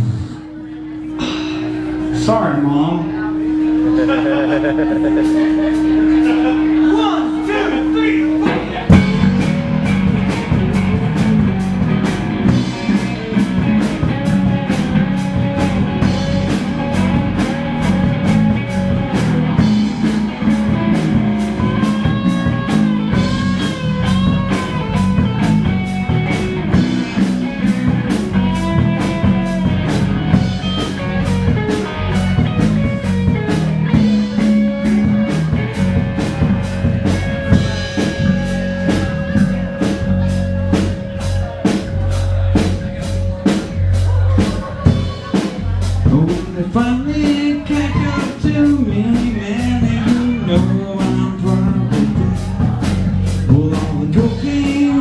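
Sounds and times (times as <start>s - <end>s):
electric guitar lead: 0.0s - 55.0s
drum kit beat: 1.1s - 2.4s, 3.6s - 55.0s.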